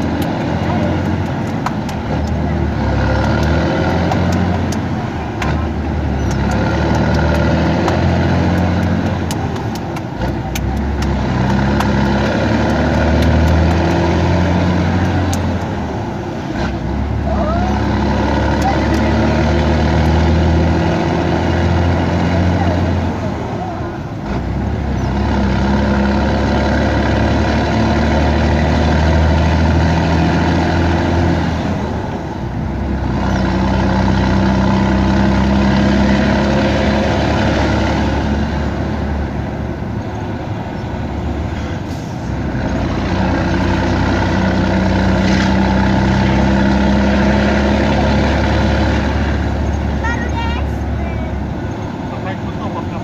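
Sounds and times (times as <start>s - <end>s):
truck diesel engine drone: 0.0s - 53.0s.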